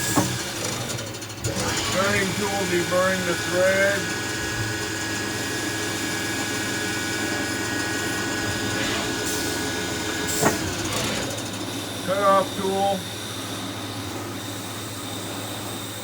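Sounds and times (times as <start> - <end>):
lathe machine hum: 0.0 - 16.0
high whine: 1.8 - 16.0.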